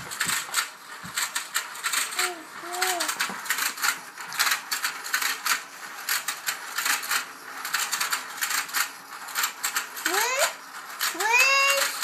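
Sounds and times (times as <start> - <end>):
toy game clicking clatter: 0.0 - 12.0.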